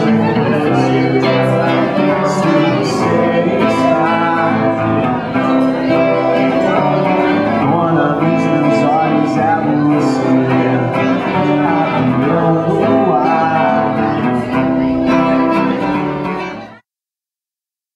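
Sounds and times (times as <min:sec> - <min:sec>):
acoustic guitars playing: 0:00.0 - 0:16.8
man singing: 0:00.0 - 0:16.8.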